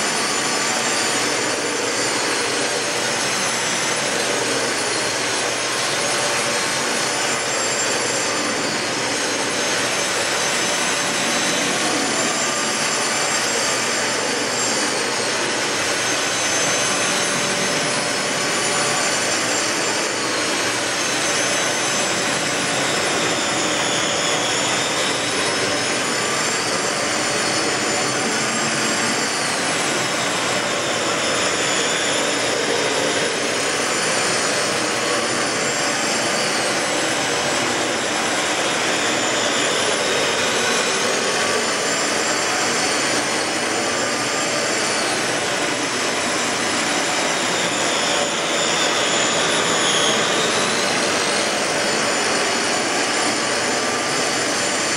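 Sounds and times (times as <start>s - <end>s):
vacuum cleaner whining: 0.0s - 54.9s.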